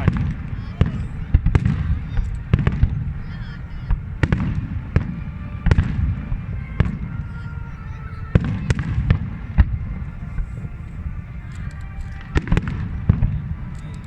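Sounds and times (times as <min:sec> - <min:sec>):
low rumble of explosions: 0:00.0 - 0:14.0.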